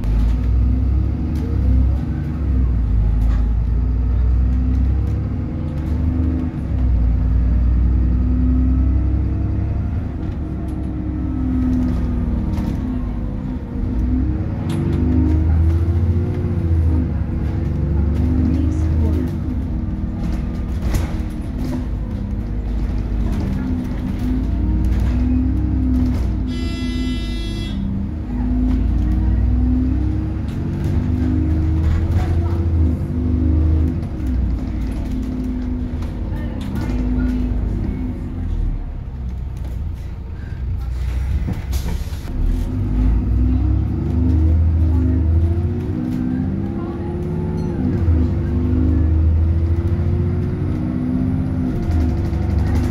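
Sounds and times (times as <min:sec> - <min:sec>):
bus engine rumbling: 0:00.0 - 0:52.9.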